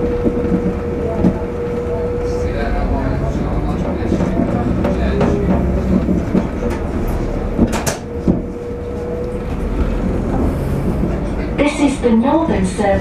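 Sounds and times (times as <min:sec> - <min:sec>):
low rumble of running train: 0:00.0 - 0:13.0.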